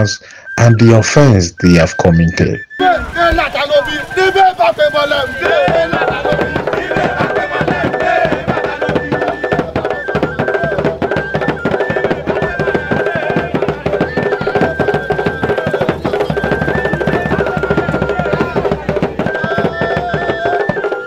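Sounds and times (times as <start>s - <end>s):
high held tone: 1.9s - 21.0s
barrel drums beating: 2.8s - 21.0s.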